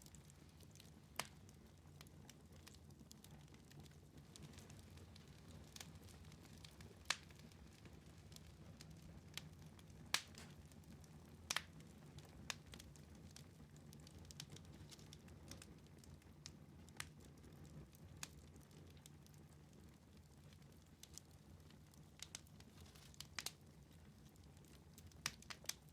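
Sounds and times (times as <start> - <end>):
fire crackling and popping: 0.0 - 25.9
fire flames rumbling: 0.0 - 25.9.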